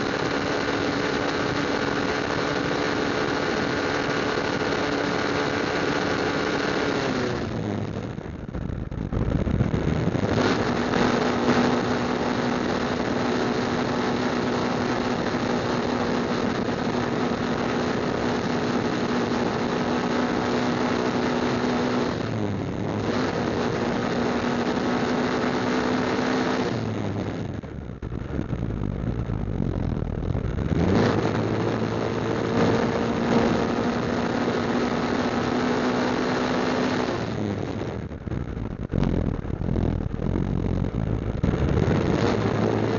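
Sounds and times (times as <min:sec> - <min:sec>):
motorcycle engine cruising: 0:00.0 - 0:42.9
road and wind noise: 0:00.0 - 0:42.9.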